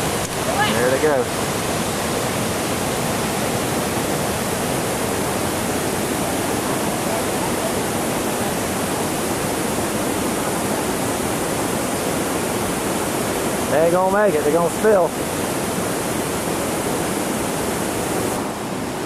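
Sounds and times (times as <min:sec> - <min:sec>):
river rapids rushing over rocks: 0:00.0 - 0:19.0.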